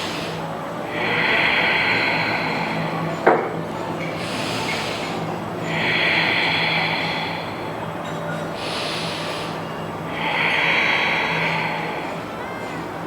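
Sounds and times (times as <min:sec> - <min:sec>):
deep breathing through nose: 0:00.0 - 0:13.0.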